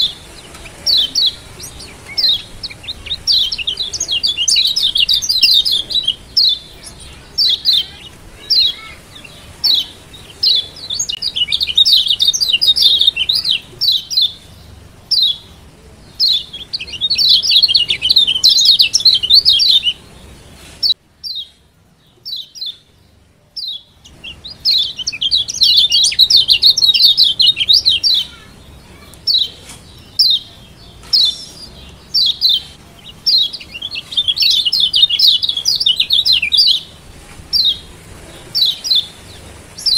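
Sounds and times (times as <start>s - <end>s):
bird chirping high calls: 0.0s - 39.9s.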